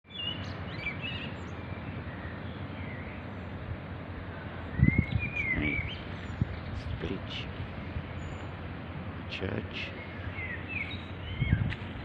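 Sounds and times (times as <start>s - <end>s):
steady low rumble: 1.2s - 12.0s.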